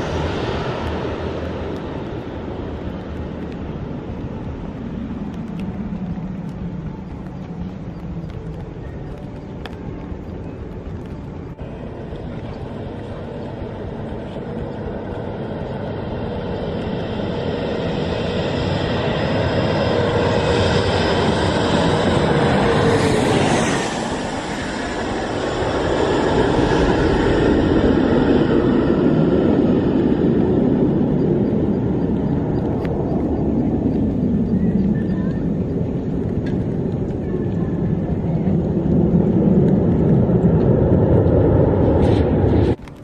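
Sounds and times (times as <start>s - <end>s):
jet plane landing overhead: 0.0s - 43.0s.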